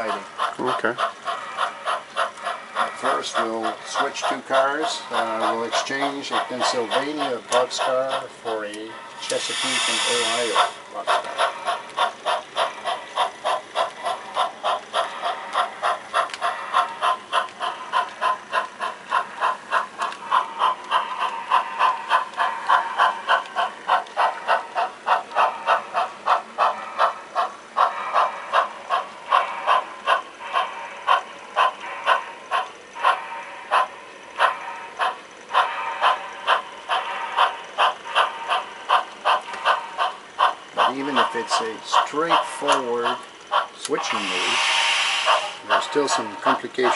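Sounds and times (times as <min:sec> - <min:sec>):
model steam locomotive chuffing: 0:00.0 - 0:46.9.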